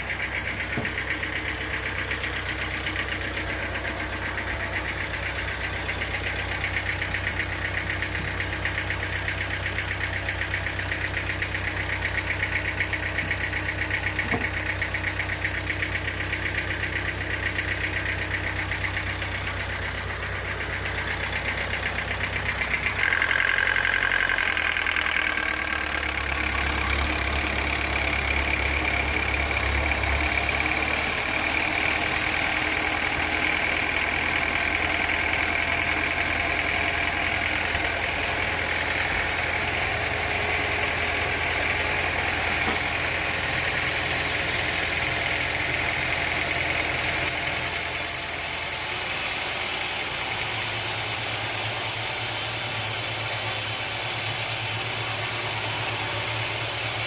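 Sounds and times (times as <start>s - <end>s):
sawmill motor drone: 0.0s - 57.0s.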